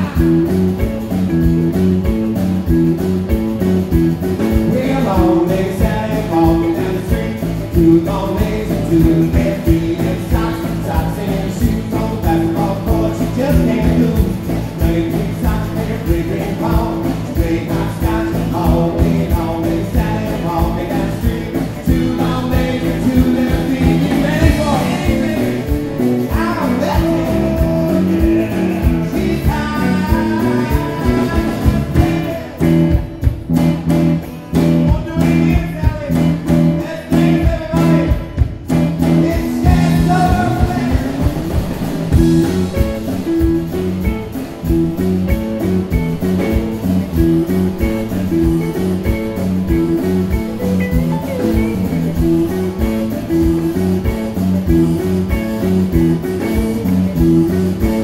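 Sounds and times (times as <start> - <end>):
person singing: 0.0 - 1.0, 4.4 - 33.3, 34.5 - 58.0
rock and roll band playing: 0.0 - 58.0.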